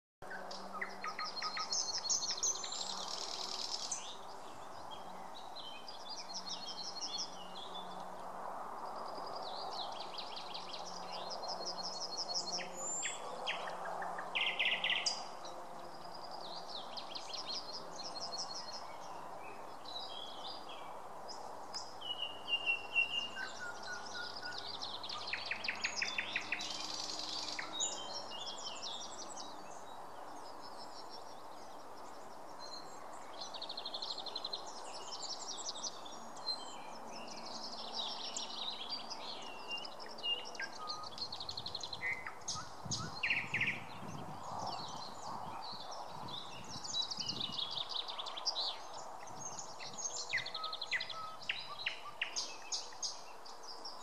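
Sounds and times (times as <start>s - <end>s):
songbirds singing: 0.2s - 54.0s.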